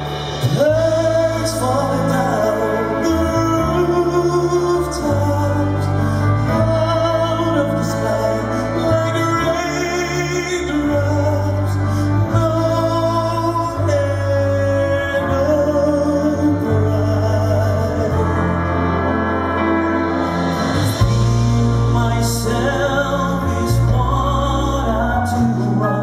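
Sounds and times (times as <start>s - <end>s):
held bass notes: 0.0s - 26.0s
orchestra with strings: 0.0s - 26.0s
male vocal group singing ballad: 0.2s - 19.3s, 20.5s - 26.0s.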